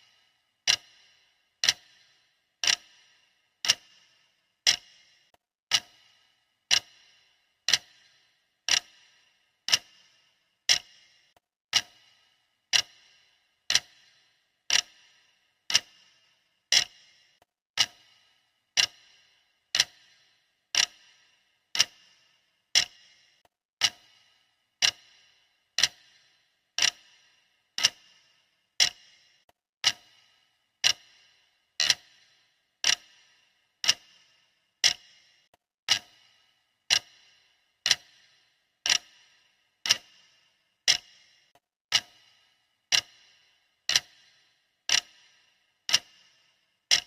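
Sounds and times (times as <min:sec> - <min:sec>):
clock ticking: 0:00.0 - 0:47.0.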